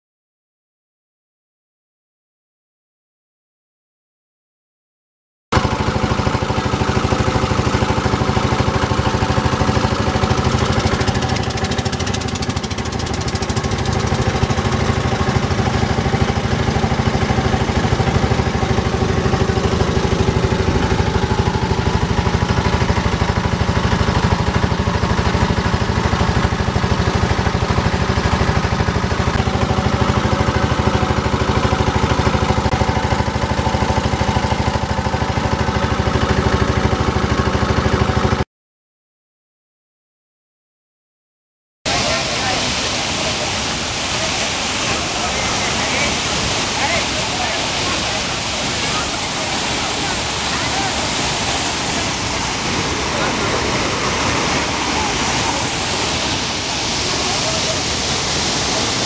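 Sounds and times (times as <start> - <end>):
boat engine running: 5.6 - 38.4, 41.9 - 59.0.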